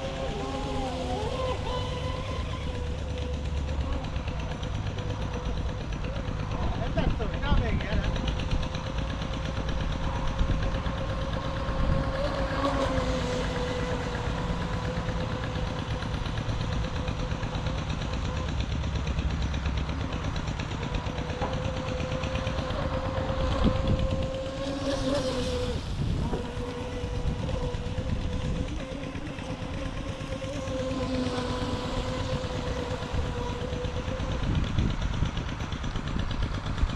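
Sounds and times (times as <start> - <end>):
electric boat motor whine: 0.0 - 36.9.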